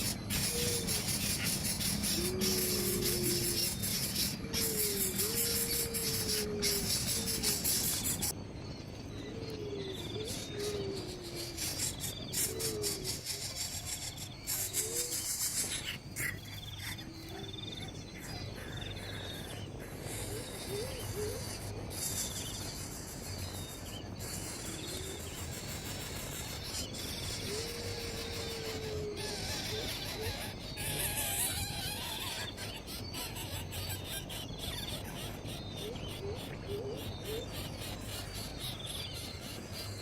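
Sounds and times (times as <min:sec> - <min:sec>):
insects trilling: 0:00.0 - 0:40.0
low bird calls: 0:00.0 - 0:40.0.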